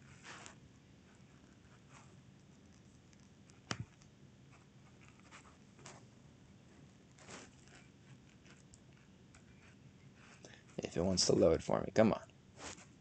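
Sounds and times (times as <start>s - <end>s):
faint ticks and rustles: 0.0s - 6.1s, 6.7s - 11.5s.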